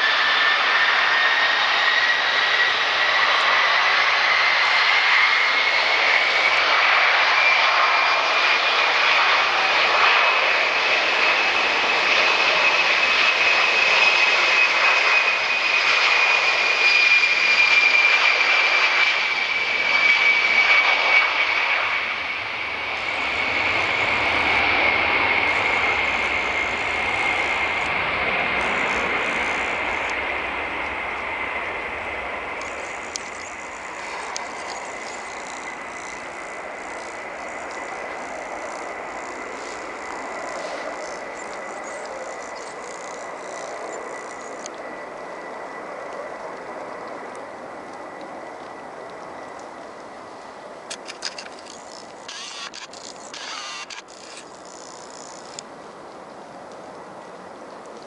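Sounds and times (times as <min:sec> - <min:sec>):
jet engines whining: 0:00.0 - 0:55.8.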